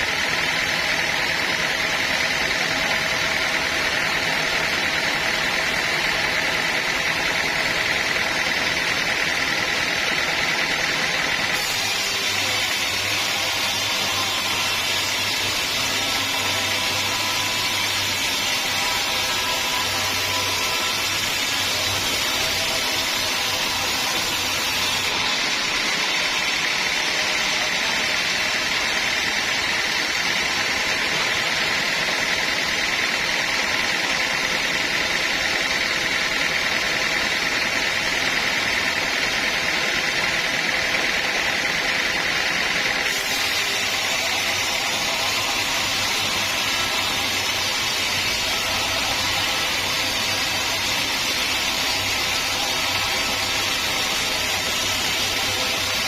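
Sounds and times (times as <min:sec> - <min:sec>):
saw cutting through log: 0:00.0 - 0:56.0.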